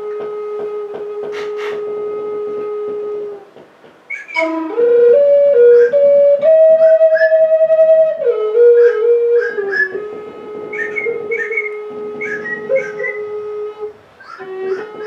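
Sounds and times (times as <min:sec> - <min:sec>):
flute playing slow melody: 0:00.0 - 0:15.0.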